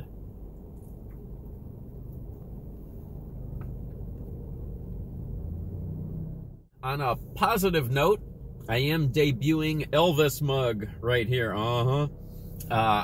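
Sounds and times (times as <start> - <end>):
car idling: 0.0 - 13.0.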